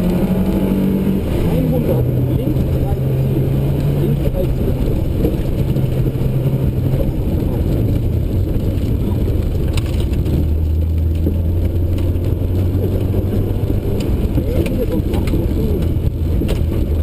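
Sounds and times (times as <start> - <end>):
rally car engine: 0.0 - 17.0
road and gravel noise: 0.0 - 17.0.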